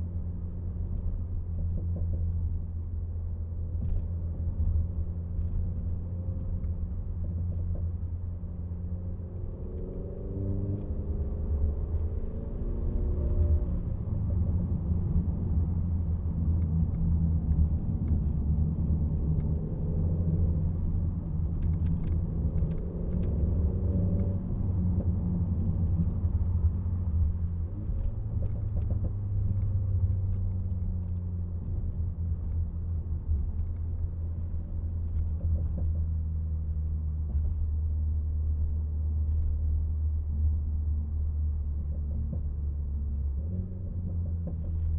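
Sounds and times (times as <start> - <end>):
car engine and exhaust droning: 0.0 - 44.9.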